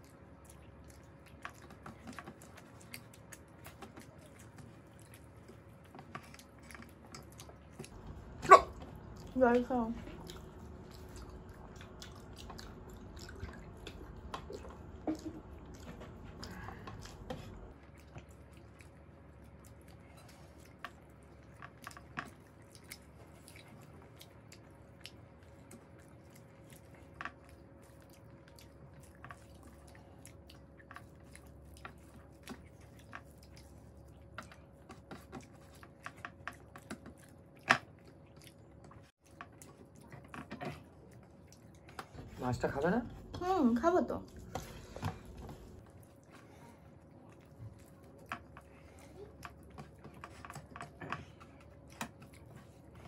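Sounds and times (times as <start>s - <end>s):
people chewing: 0.0s - 53.0s.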